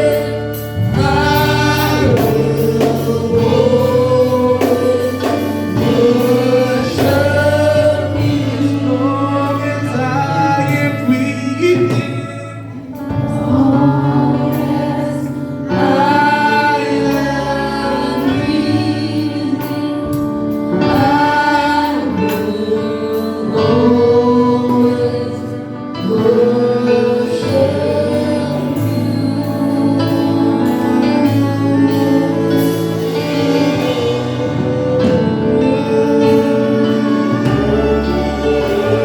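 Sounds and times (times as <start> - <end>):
gospel choir singing: 0.0 - 39.0
instrumental accompaniment: 0.0 - 39.0.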